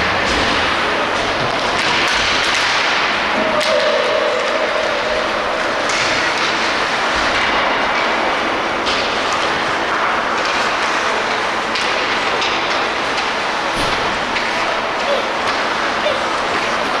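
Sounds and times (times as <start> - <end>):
hockey sticks and puck clacking: 0.0 - 17.0.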